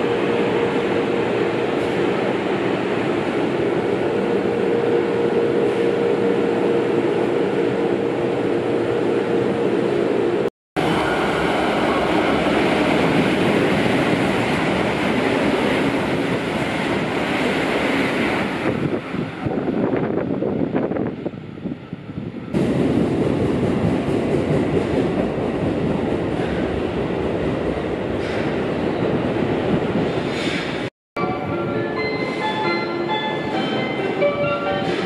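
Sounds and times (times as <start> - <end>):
express train passing at speed: 0.0 - 35.0
train rumble with hum: 0.0 - 35.0.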